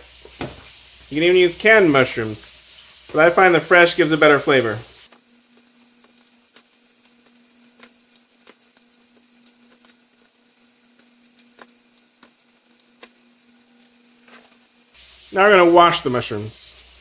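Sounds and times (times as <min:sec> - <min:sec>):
chicken sizzling in a pan: 0:00.0 - 0:17.0
faint steady hum: 0:00.9 - 0:17.0.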